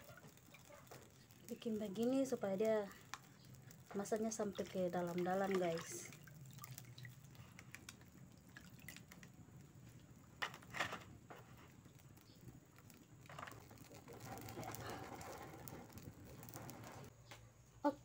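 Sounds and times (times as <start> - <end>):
water dripping and splashing: 0.0 - 17.1.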